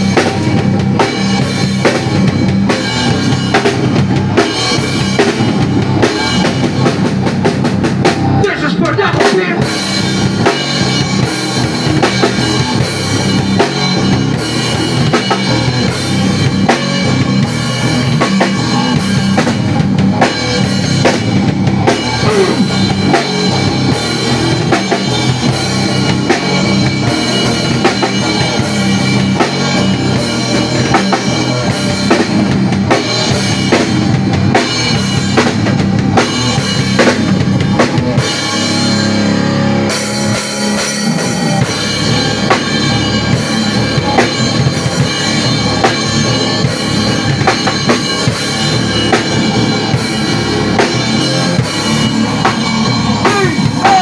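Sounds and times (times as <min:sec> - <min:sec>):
band jamming live: 0:00.0 - 0:54.0
drum kit beat: 0:00.0 - 0:54.0.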